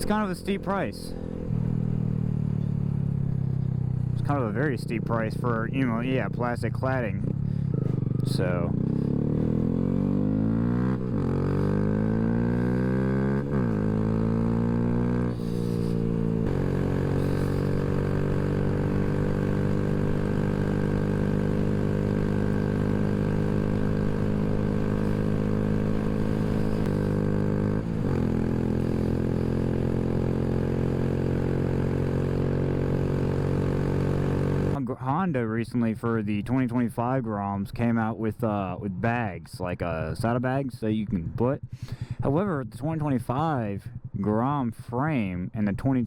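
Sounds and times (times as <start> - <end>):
motorcycle engine accelerating: 0.0 - 34.8, 41.0 - 45.0.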